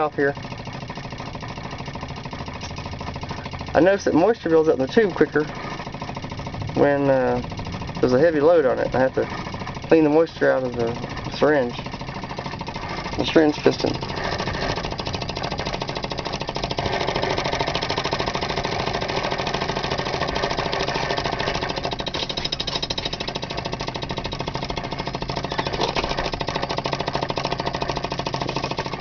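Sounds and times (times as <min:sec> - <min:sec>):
engine knocking rattle: 0:00.0 - 0:29.0.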